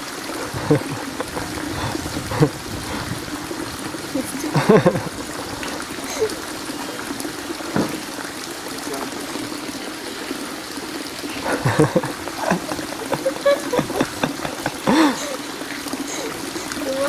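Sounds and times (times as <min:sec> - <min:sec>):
water trickling into pond: 0:00.0 - 0:17.0.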